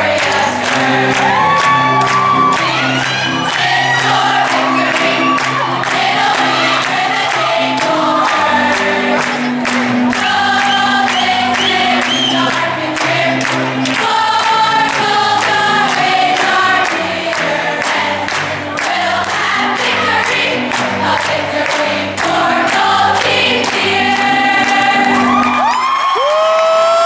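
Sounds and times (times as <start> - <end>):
children singing together: 0.0 - 25.4.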